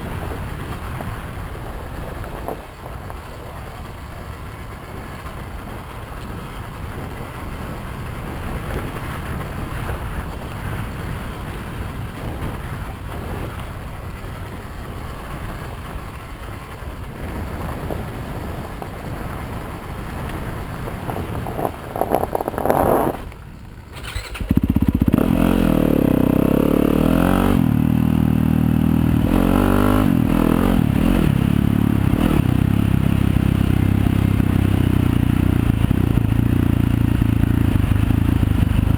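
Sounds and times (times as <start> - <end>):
dirt bike engine running: 0.0 - 38.9
wind and trail noise: 0.0 - 38.9.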